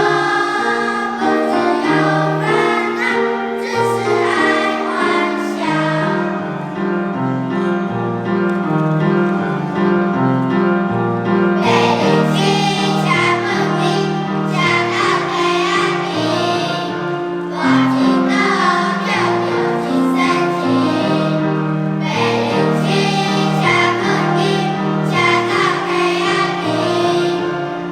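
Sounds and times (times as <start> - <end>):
children's choir singing: 0.0 - 27.9
instrumental accompaniment: 0.0 - 27.9.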